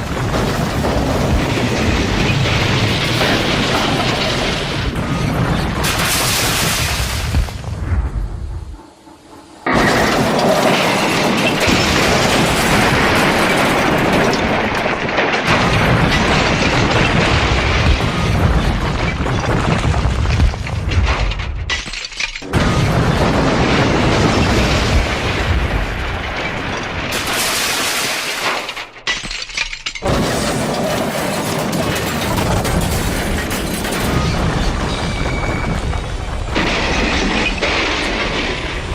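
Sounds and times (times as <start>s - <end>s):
crashing and shattering: 0.0s - 7.8s, 9.7s - 38.9s.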